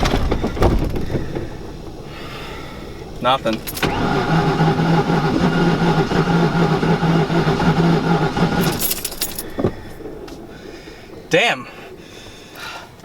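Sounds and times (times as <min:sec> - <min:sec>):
metallic rattle: 0:00.0 - 0:12.0
starter motor cranking engine: 0:00.0 - 0:13.0.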